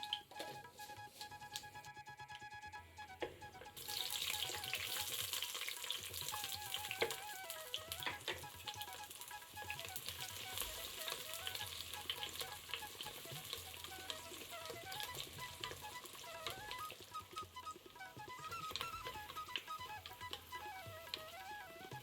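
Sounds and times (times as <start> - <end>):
soft background music: 0.0 - 22.0
food sizzling in a pan: 3.8 - 22.0.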